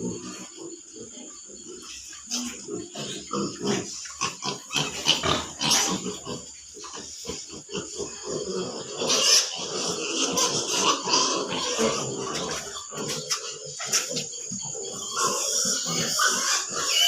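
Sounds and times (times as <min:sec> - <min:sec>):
pigs grunting: 0:00.0 - 0:17.0.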